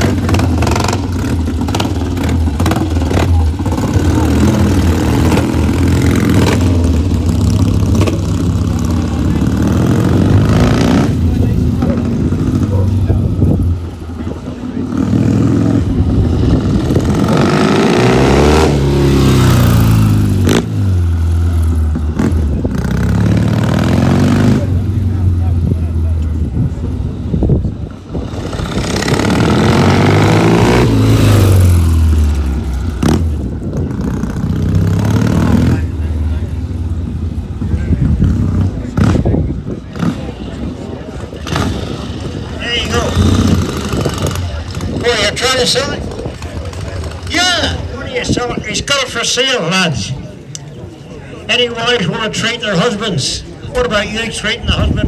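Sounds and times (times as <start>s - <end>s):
motorcycle engine running: 0.0s - 49.2s.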